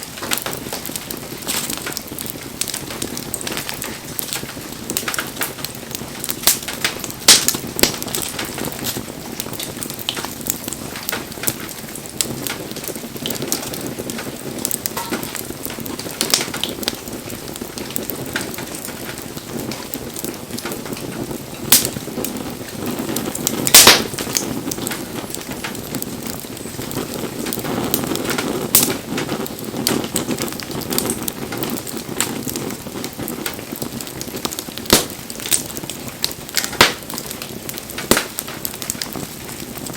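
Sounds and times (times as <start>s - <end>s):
burning firewood popping: 0.0s - 39.9s
wood fire crackling: 0.0s - 39.9s.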